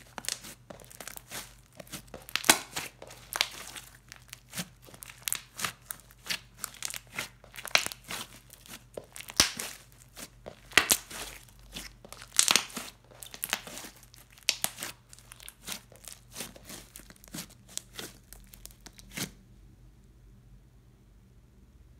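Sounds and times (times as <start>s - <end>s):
slime crackling and popping: 0.0s - 19.4s.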